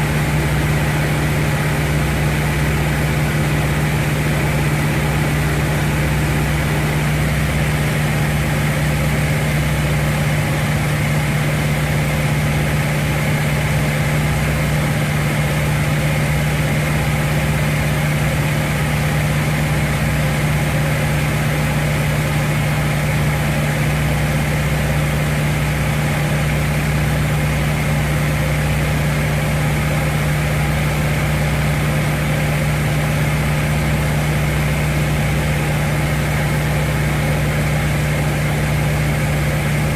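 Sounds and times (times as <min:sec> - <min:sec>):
aircraft radial engine droning: 0:00.0 - 0:39.9.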